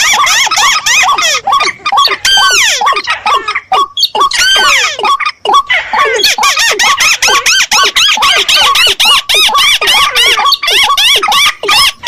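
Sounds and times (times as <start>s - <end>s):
recorded waterbird calls: 0.0s - 12.0s.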